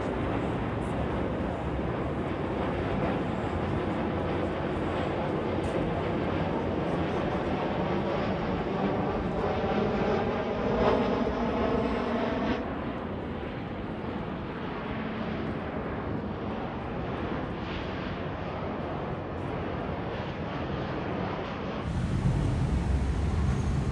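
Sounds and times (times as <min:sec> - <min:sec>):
jet airliner engines roaring: 0:00.0 - 0:23.9.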